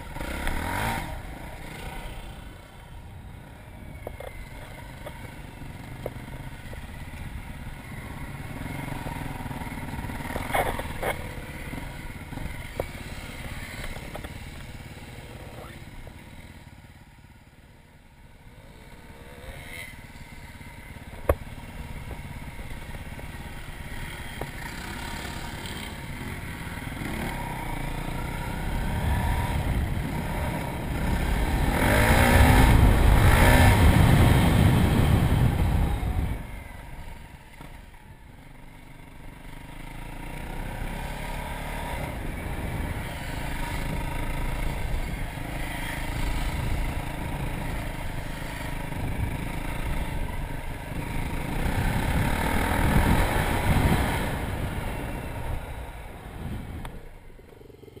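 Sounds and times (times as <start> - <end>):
dirt bike engine revving: 0.0 - 2.6, 7.8 - 16.4, 18.5 - 20.4, 21.2 - 37.1, 40.0 - 58.0.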